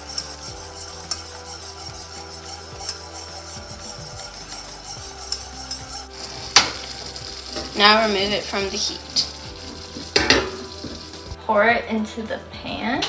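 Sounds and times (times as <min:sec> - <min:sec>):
syrup bubbling and sizzling: 0:00.0 - 0:11.4
whisk clinking against pan: 0:00.0 - 0:11.4.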